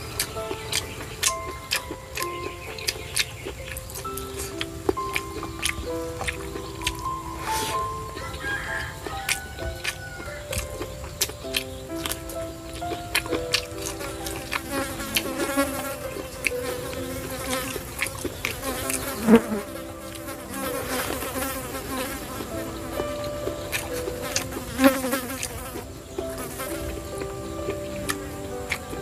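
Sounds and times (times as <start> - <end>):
clicks and smacks of eating: 0.0 - 29.0.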